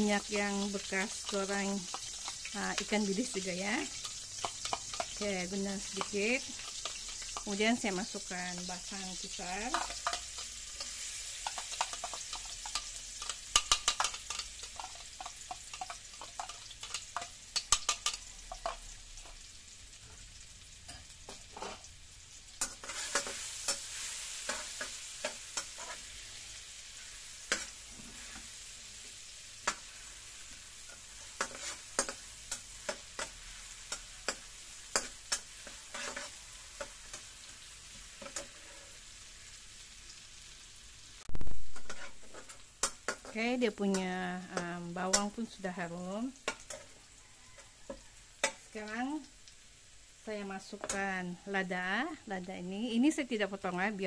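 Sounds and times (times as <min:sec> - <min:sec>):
paste sizzling in hot oil: 0:00.0 - 0:54.0
metal spatula scraping a wok: 0:00.7 - 0:20.3, 0:20.9 - 0:21.9, 0:22.5 - 0:39.2, 0:41.7 - 0:45.5, 0:46.4 - 0:48.7.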